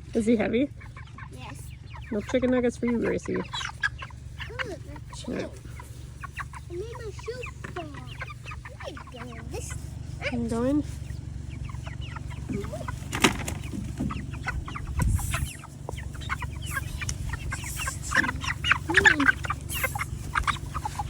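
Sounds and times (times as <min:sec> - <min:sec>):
chicks peeping: 0:00.0 - 0:21.0
steady low rumble: 0:00.0 - 0:21.0.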